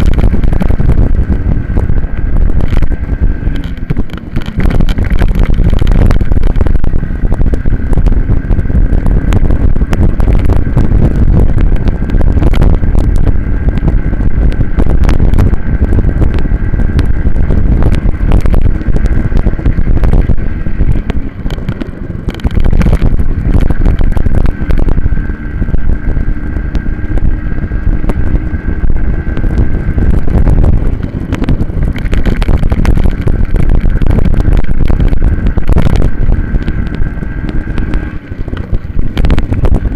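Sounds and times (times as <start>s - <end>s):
minibike engine: 0.0s - 39.9s
wind buffeting microphone: 0.0s - 39.9s.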